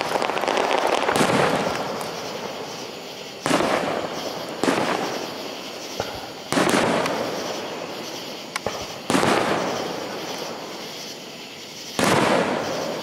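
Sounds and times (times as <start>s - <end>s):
firework shells bursting with bangs: 0.0s - 13.0s
fireworks crackling: 0.0s - 13.0s.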